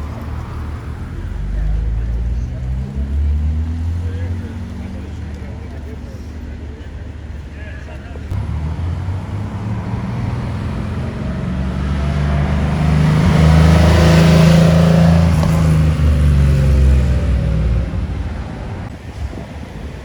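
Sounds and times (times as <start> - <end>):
car driving past: 0.0 - 5.4, 8.3 - 19.0.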